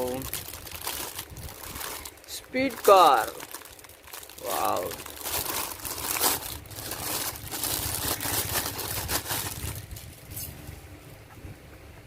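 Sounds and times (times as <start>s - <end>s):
packaging crinkling: 0.0s - 10.5s.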